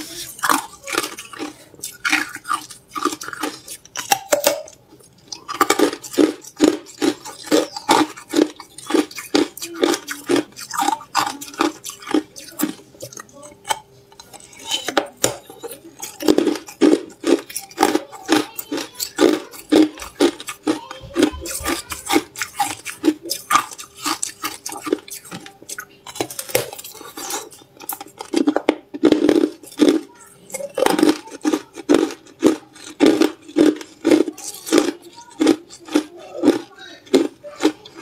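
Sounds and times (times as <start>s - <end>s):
ice crunching between teeth: 0.0s - 38.0s.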